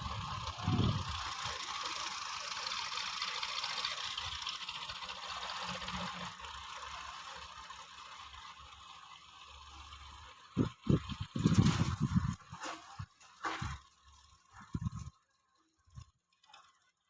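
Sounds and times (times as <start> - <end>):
diesel tractor engine clattering: 0.0 - 17.0.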